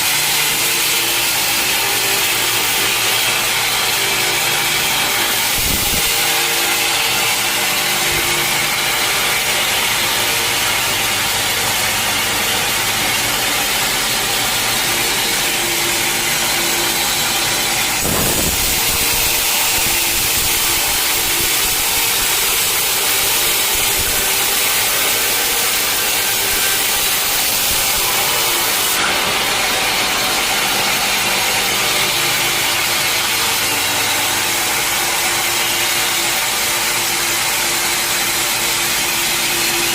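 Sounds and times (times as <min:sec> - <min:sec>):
mill motor running: 0:00.0 - 0:39.9
saw blade cutting log: 0:00.0 - 0:39.9.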